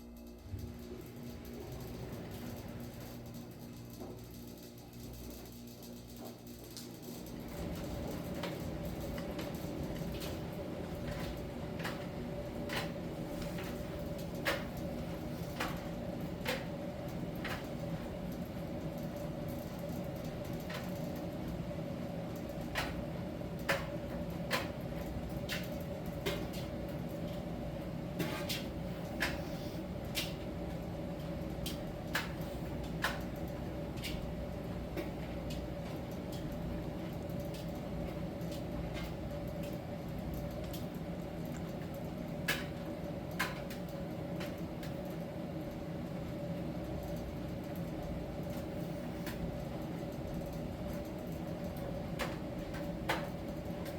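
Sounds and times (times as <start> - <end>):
tumble dryer humming: 0.0 - 53.9.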